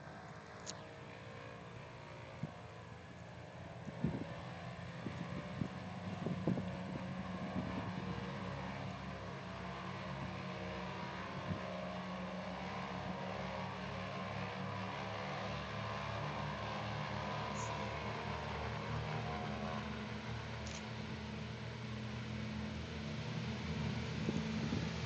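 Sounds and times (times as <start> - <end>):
propeller plane engines droning: 0.0 - 25.0.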